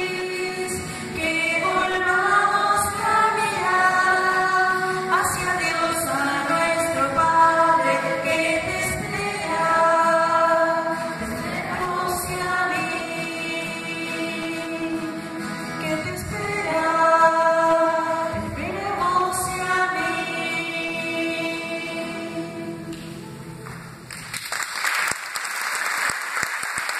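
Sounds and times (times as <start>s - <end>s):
women singing together: 0.0s - 23.2s
music: 0.0s - 24.5s.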